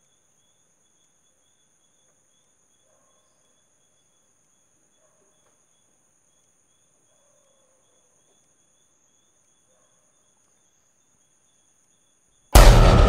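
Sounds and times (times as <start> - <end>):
crickets trilling: 0.0 - 12.5.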